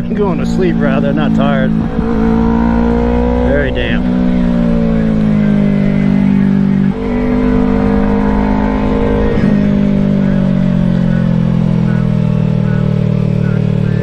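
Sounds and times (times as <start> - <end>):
motorcycle engine downshifting: 0.0 - 14.0.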